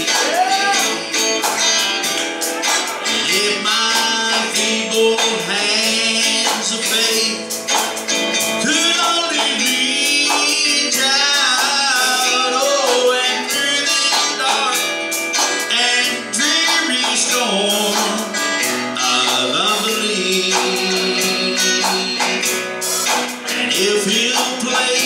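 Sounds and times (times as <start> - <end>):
man singing: 0.0 - 1.4, 2.9 - 25.0
electric guitar: 0.0 - 25.0.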